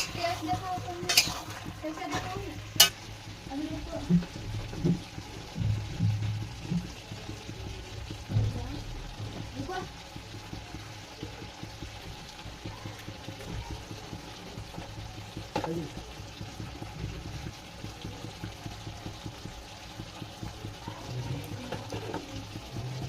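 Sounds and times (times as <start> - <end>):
curry sizzling in a pan: 0.0 - 23.0.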